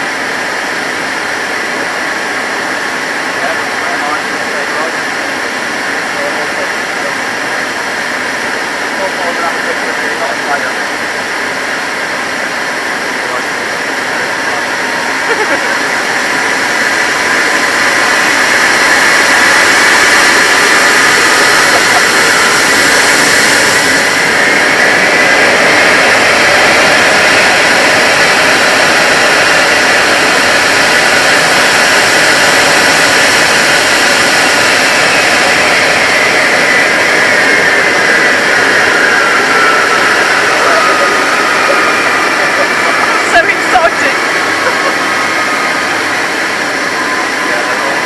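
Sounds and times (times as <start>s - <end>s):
jet engines rushing and whining: 0.0s - 48.0s.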